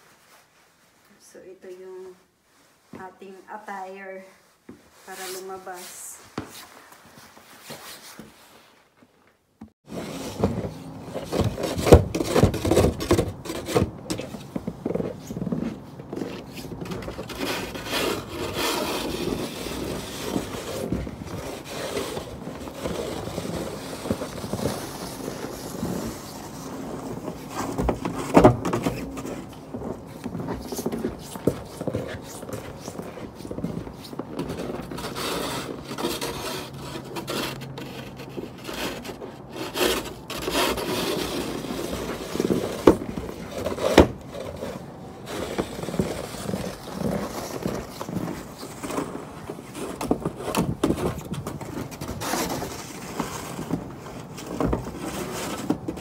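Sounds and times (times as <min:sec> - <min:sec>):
snow shovel scraping wooden deck: 0:09.8 - 0:56.0.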